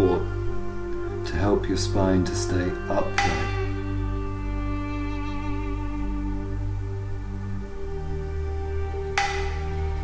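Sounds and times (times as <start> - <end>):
low drone: 0.0 - 10.0
slow ambient music: 0.0 - 10.0.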